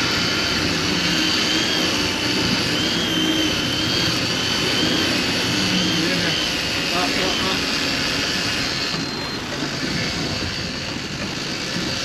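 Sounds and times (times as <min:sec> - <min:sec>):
boat engines running: 0:00.0 - 0:12.0
continuous rushing noise: 0:00.0 - 0:12.0
thin wavering whine: 0:00.0 - 0:12.0.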